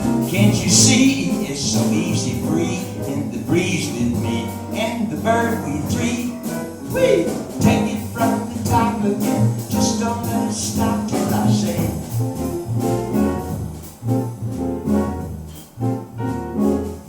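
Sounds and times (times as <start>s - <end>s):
jazz band playing swing: 0.0s - 17.0s
piano: 0.0s - 17.0s.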